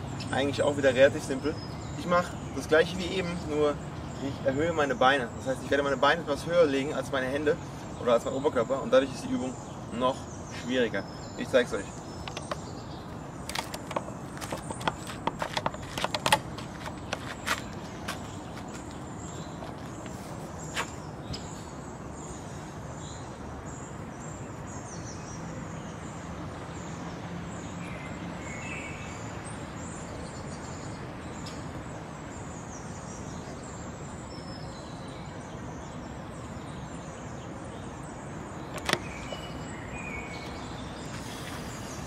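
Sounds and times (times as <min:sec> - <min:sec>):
outdoor ambient noise: 0:00.0 - 0:42.0.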